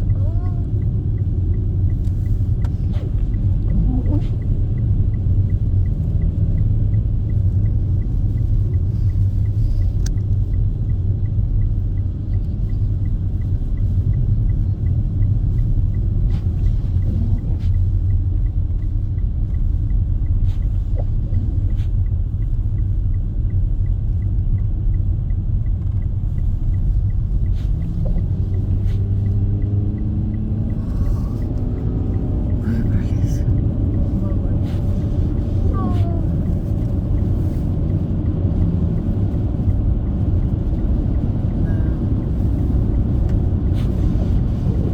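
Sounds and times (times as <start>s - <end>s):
engine and road rumble: 0.0s - 44.9s.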